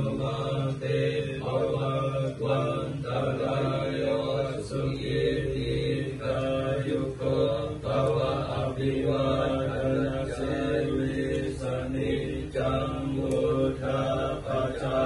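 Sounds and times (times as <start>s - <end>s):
monks chanting in monotone: 0.0s - 15.0s.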